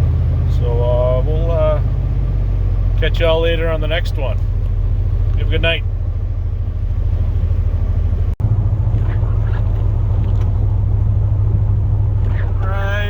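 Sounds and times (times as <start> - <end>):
truck engine low drone: 0.0 - 13.0.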